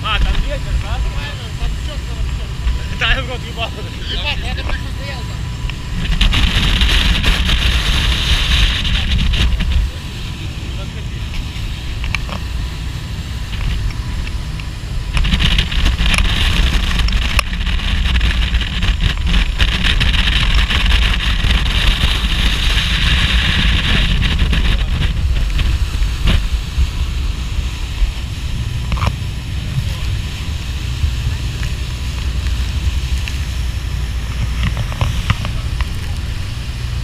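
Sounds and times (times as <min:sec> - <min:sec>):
water rushing along hull: 0:00.0 - 0:37.0
wind buffeting microphone: 0:00.0 - 0:37.0.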